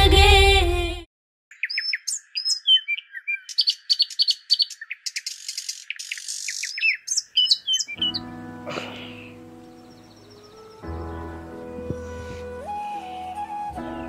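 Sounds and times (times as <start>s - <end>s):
songbirds chirping and twittering: 1.5s - 14.0s.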